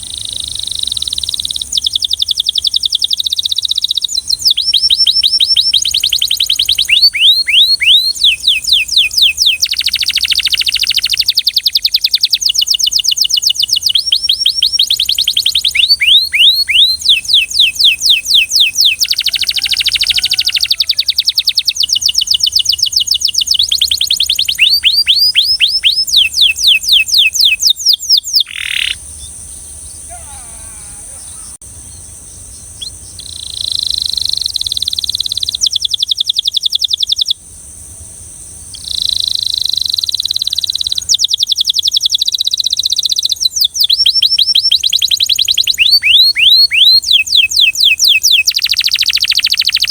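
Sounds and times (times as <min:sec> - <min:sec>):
canary singing trills: 0:00.0 - 0:37.4, 0:38.7 - 0:49.9.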